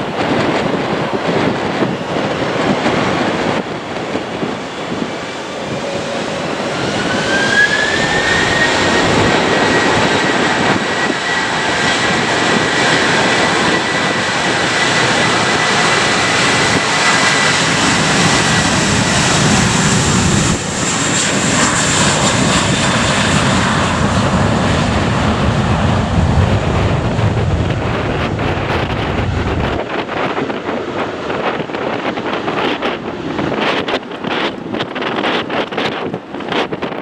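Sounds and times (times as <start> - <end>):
high engine whine: 0.0 - 29.8
jet engines running: 0.0 - 37.0.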